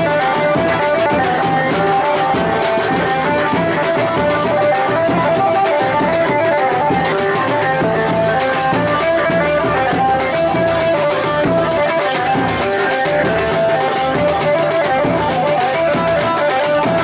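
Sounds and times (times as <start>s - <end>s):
drum beating steadily: 0.0s - 17.0s.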